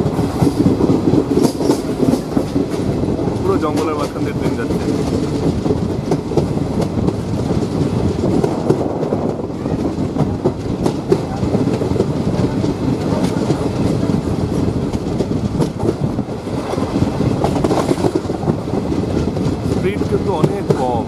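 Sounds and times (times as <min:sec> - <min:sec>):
train rumbling on rails: 0:00.0 - 0:21.0
wheels clattering over rail joints: 0:00.0 - 0:21.0.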